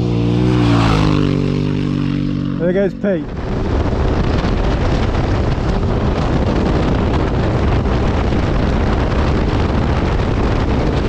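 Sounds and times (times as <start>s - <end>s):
motorcycle engine: 0.0s - 11.0s
wind buffeting microphone: 0.0s - 11.0s.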